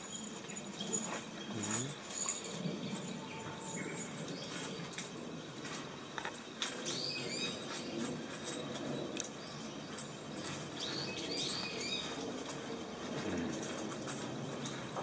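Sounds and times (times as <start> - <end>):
steady background hiss: 0.0 - 15.0
small birds chirping: 0.1 - 15.0.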